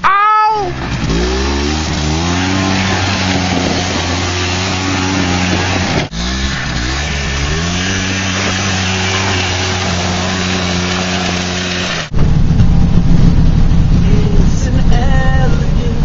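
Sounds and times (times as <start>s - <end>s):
car engine droning: 0.0s - 16.0s
rough low vehicle rumble: 0.6s - 16.0s.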